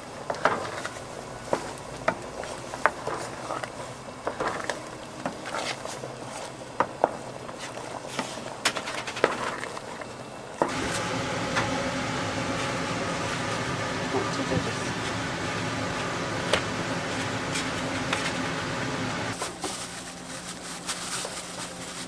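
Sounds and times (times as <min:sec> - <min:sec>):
wooden spoon stirring thick filling: 0:00.0 - 0:11.5, 0:12.4 - 0:22.0
steady hum: 0:00.0 - 0:22.0.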